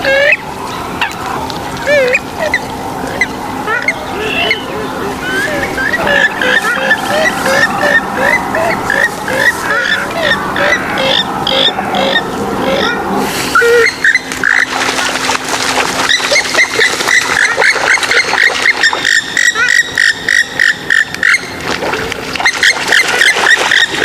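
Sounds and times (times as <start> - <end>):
waterbird calls: 0.0 - 24.0.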